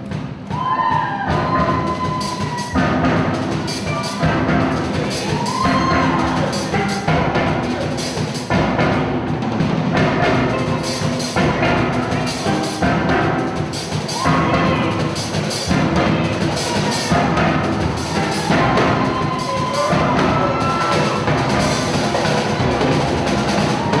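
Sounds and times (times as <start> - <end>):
drums keeping a steady beat: 0.0 - 24.0
steel pans playing: 1.3 - 24.0.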